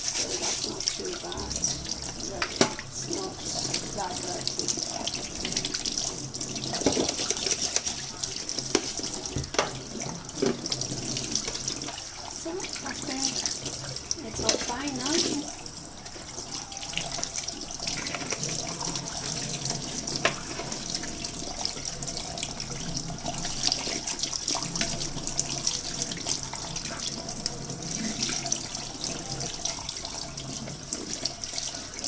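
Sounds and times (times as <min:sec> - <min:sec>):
kitchen tap running: 0:00.0 - 0:32.0
water splashing on filter: 0:00.0 - 0:32.0.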